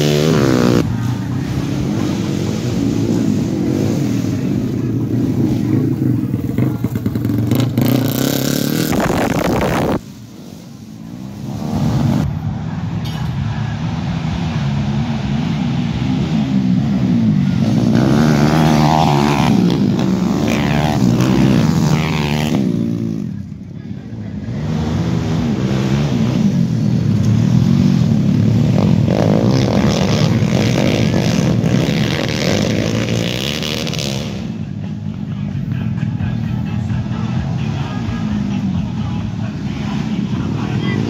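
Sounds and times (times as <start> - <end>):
racing engines revving: 0.0 - 41.0.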